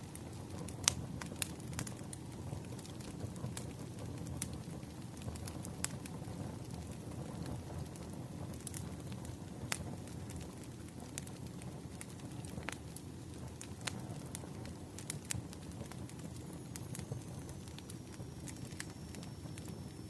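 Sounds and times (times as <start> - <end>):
firewood crackling: 0.0 - 20.0
low fire rumble: 0.0 - 20.0.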